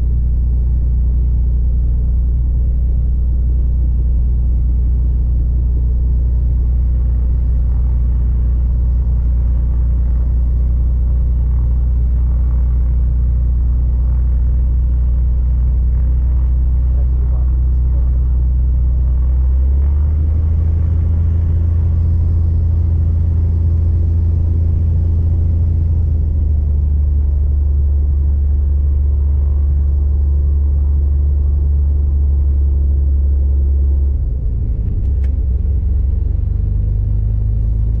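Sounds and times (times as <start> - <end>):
propeller plane engine drone in cabin: 0.0 - 38.0.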